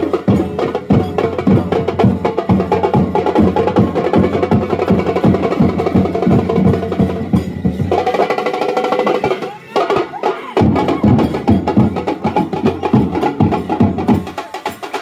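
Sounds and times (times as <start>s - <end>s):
percussion band drumming: 0.0s - 15.0s.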